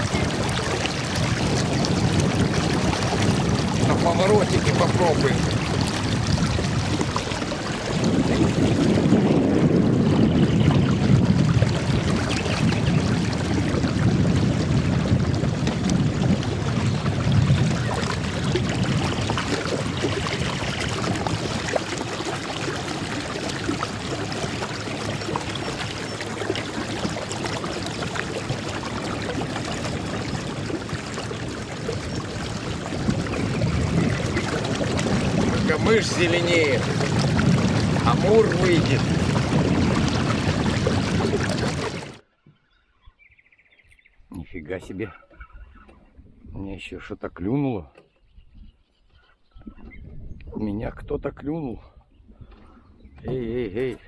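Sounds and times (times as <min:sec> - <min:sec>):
water lapping against boat hull: 0:00.0 - 0:43.0, 0:43.9 - 0:54.0.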